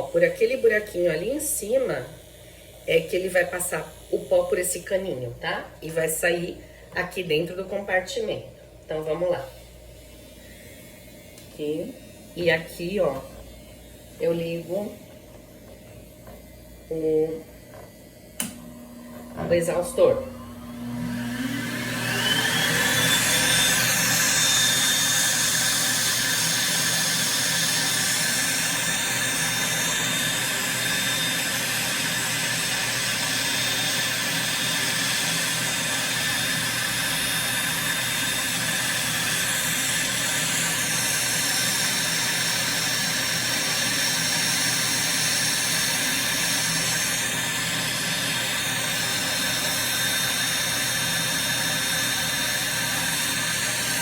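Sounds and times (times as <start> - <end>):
nail drill and extractor whirring: 10.5 - 54.0.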